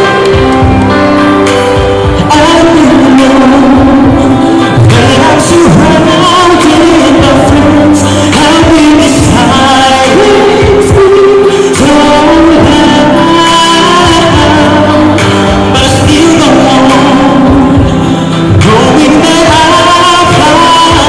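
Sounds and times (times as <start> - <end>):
backing pop music: 0.0 - 21.0
man singing into microphone: 1.7 - 21.0.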